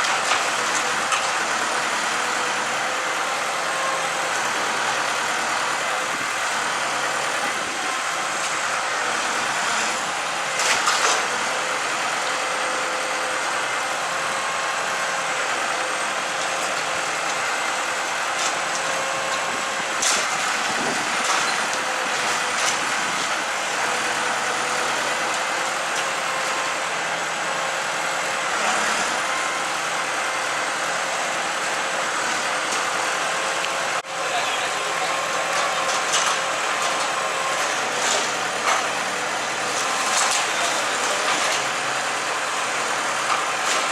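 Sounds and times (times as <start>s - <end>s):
wood cracking in fire: 0.0s - 12.4s, 15.3s - 26.9s, 31.6s - 43.9s.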